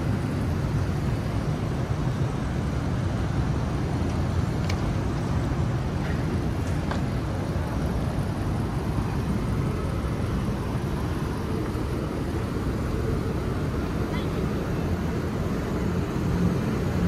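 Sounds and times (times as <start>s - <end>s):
city street rumble: 0.0s - 17.0s.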